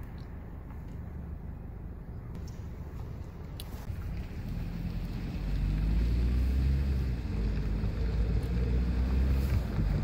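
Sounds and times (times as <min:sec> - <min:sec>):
car driving heard from inside: 0:00.1 - 0:10.0.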